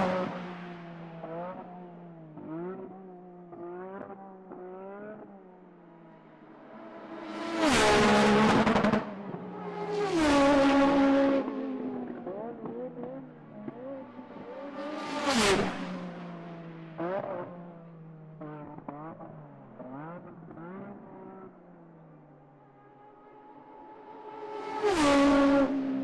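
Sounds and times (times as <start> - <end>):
race cars passing: 0.0 - 26.0.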